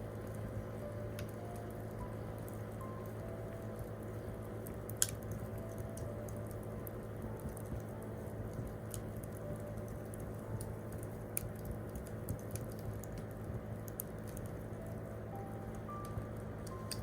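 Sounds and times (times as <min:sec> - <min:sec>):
campfire crackling: 0:00.0 - 0:17.0
low rumble of burning fire: 0:00.0 - 0:17.0
sharp snaps and pops: 0:00.0 - 0:17.0.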